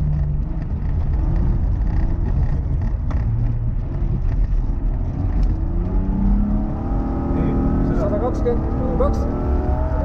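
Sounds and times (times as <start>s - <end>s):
tyres rumbling on gravel road: 0.0s - 10.0s.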